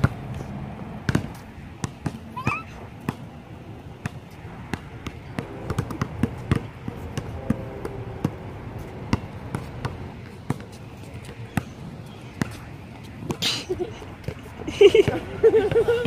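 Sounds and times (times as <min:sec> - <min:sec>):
low background hubbub: 0:00.0 - 0:16.0.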